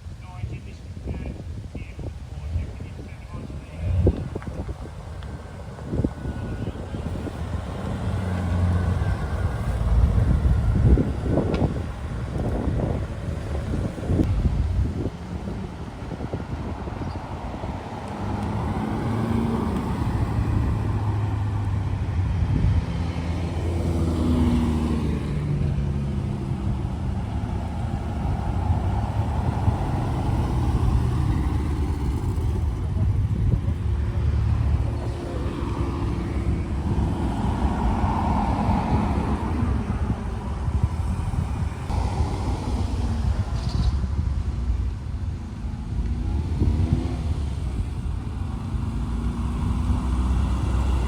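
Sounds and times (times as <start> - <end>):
car engines rumbling: 0.0 - 51.0.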